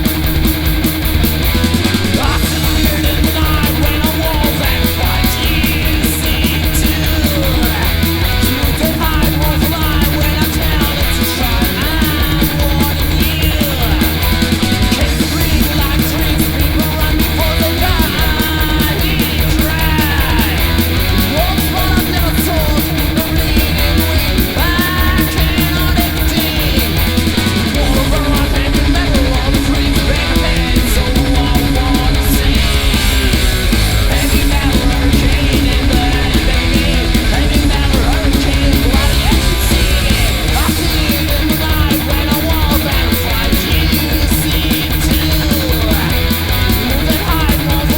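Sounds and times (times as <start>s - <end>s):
bass guitar: 0.0s - 47.9s
distorted electric guitars: 0.0s - 47.9s
fast drums: 0.0s - 47.9s
high yelled vocals: 0.0s - 47.9s.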